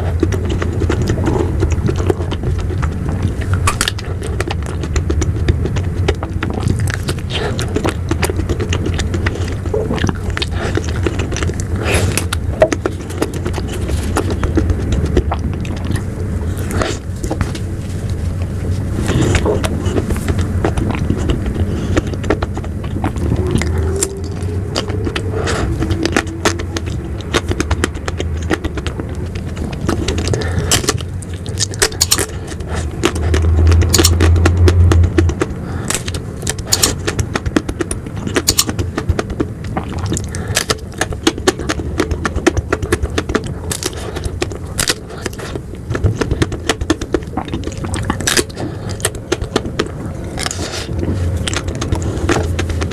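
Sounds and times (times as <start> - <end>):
crackling ice cream bites: 0.0 - 52.9
low rumble: 0.0 - 52.9.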